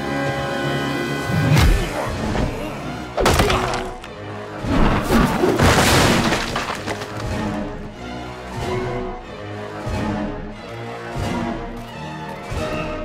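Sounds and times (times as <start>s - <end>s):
film score music: 0.0s - 13.0s.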